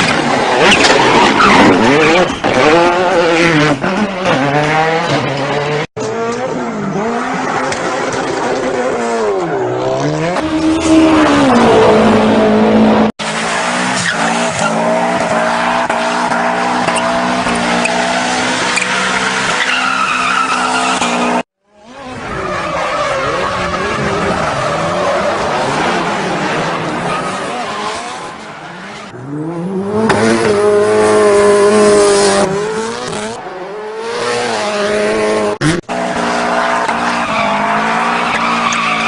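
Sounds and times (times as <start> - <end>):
rally car engine revving: 0.0 - 39.0
tyres skidding: 0.0 - 39.0.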